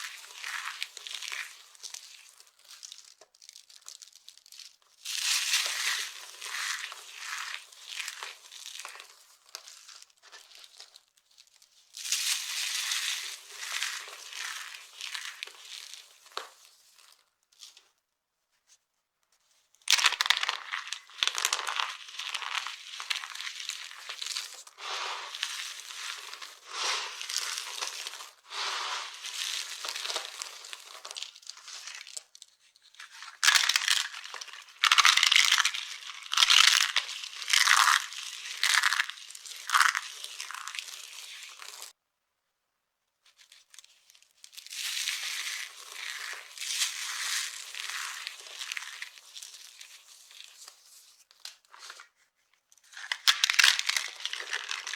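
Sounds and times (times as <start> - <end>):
dry soap crunching: 0.0 - 17.8, 19.9 - 41.9, 43.3 - 52.1, 52.8 - 54.9.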